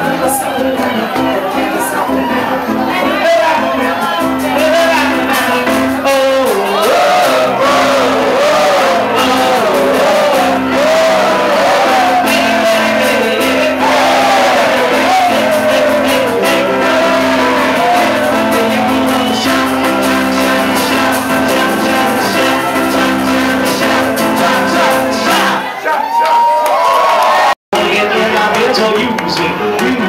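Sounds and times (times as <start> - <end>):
person singing: 0.0 - 25.8, 27.8 - 30.0
piano: 0.0 - 25.8
crowd shouting: 0.0 - 30.0.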